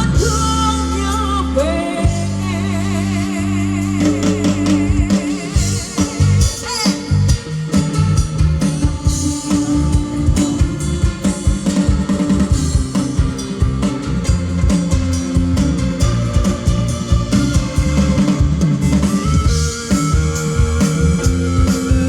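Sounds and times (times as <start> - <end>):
instrumental pop music over speakers: 0.0 - 22.0.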